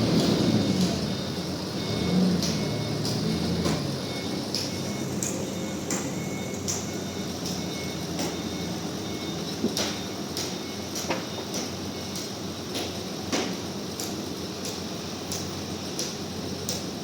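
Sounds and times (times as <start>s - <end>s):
sawmill machinery humming: 0.0s - 17.0s.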